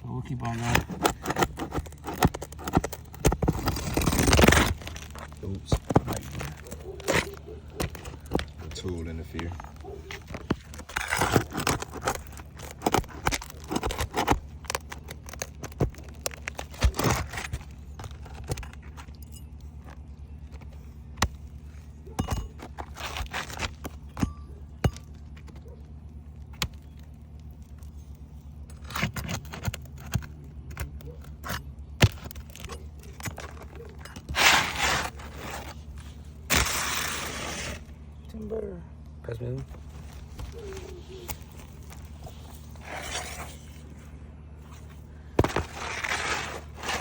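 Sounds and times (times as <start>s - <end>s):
steady low hum: 0.0s - 47.0s
roofing tools scraping: 0.2s - 25.6s, 27.6s - 38.1s, 39.6s - 47.0s.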